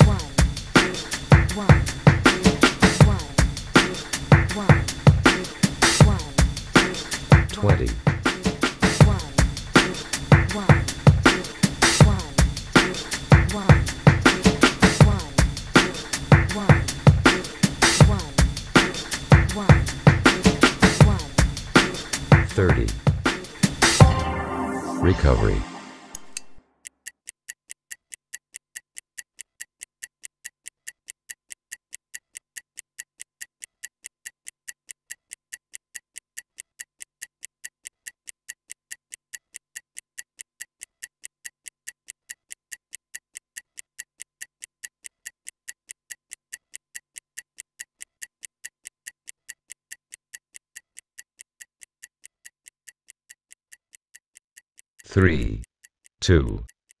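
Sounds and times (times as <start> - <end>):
stopwatch ticking: 0.0 - 23.9, 26.9 - 57.0.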